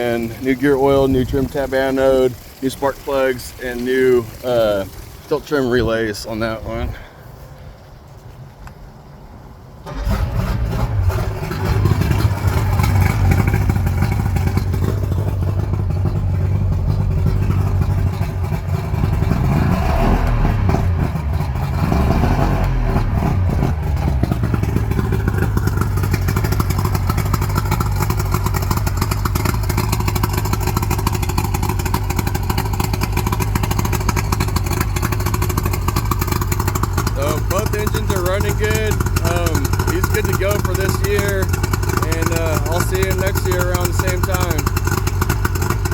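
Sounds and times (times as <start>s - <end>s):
outboard motor revving: 0.0s - 6.9s, 9.9s - 45.9s.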